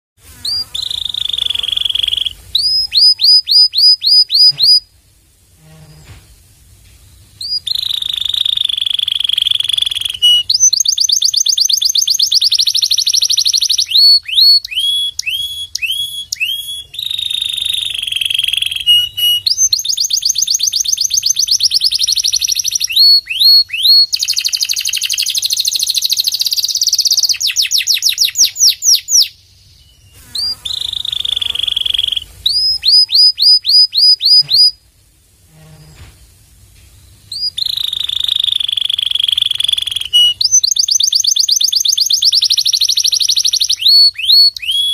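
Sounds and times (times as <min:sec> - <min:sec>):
canary singing trills: 0:00.4 - 0:04.9, 0:07.4 - 0:34.8, 0:37.1 - 0:44.9.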